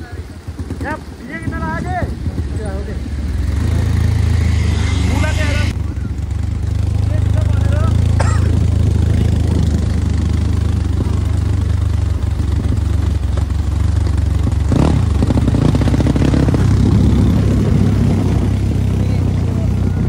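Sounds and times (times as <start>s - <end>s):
dirt bike engines running: 0.0s - 20.0s.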